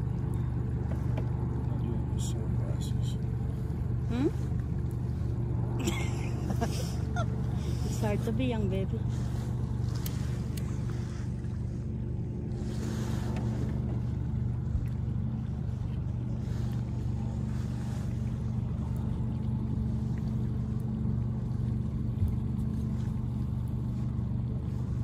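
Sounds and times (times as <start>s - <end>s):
boat motor running: 0.0s - 25.0s
water noise: 0.0s - 25.0s.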